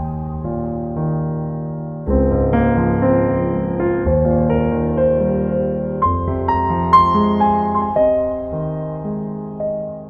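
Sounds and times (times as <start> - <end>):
calm piano music: 0.0 - 10.0.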